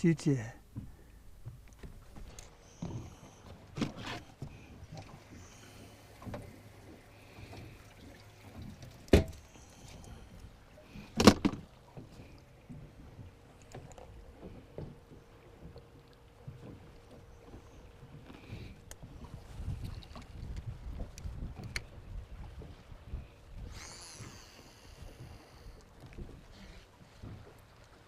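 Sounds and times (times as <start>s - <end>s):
knocks and thumps on a boat: 0.6s - 28.0s.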